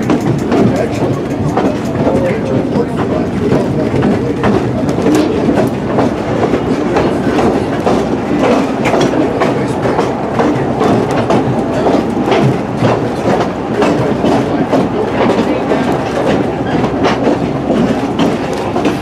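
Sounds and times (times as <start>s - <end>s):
train car rumbling on track: 0.0s - 19.0s
wheels clicking over rail joints: 0.0s - 19.0s.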